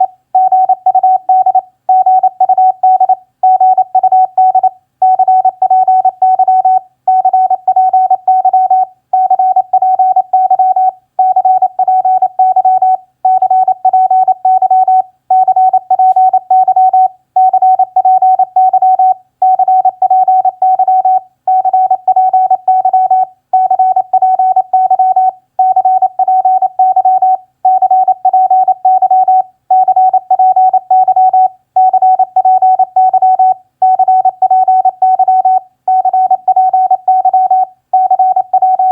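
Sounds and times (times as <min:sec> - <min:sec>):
morse code tone: 0:00.0 - 0:38.9.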